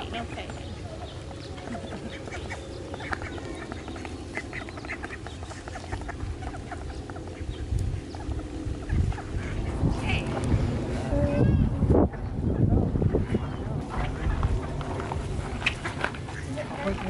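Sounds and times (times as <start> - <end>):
ducks calling: 0.0 - 17.0
low rumble: 0.0 - 17.0.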